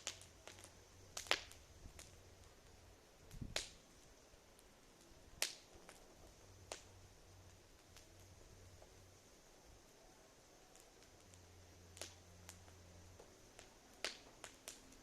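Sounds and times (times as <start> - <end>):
faint low hum: 0.0 - 15.0
wood fire popping: 0.0 - 15.0.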